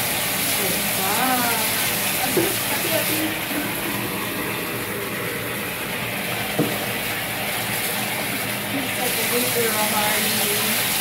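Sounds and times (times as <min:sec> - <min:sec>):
shower water running into bathtub: 0:00.0 - 0:11.0.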